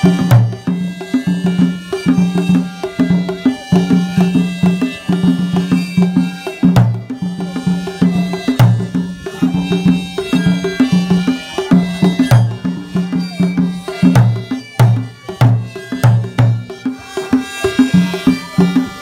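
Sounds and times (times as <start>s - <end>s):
barrel drum beaten with stick: 0.0s - 19.0s.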